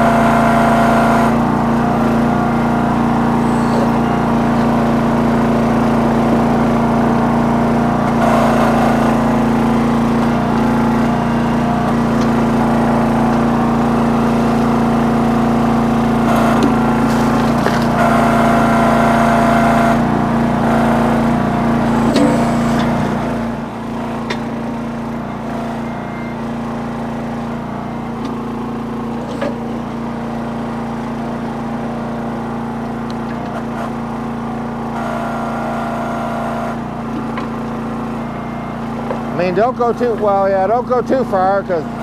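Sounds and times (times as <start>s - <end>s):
backhoe engine running: 0.0s - 42.0s.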